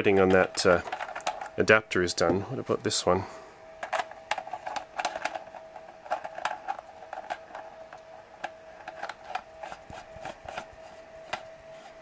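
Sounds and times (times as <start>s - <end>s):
faint steady tone: 0.0s - 12.0s.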